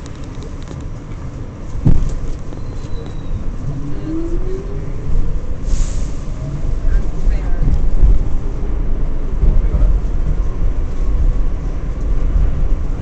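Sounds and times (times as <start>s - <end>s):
subway car rumble: 0.0s - 13.0s.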